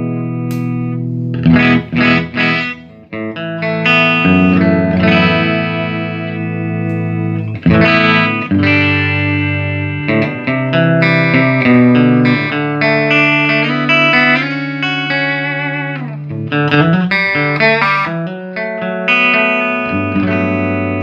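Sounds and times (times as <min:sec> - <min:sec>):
electric guitar chords strummed: 0:00.0 - 0:21.0.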